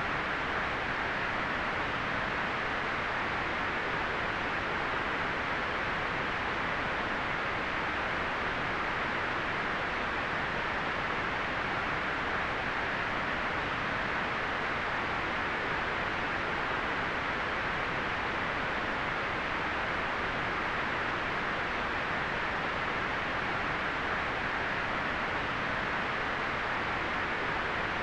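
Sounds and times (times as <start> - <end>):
steady white noise hiss: 0.0 - 28.0.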